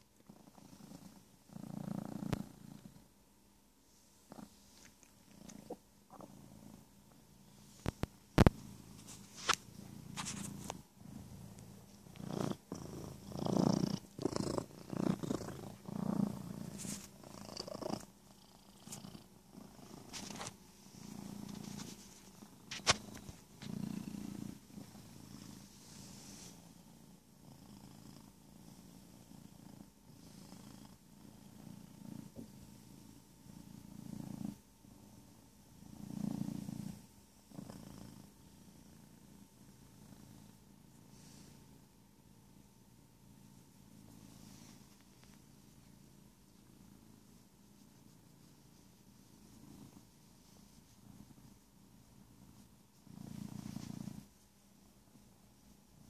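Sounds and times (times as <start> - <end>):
cat purring: 0.0 - 56.0.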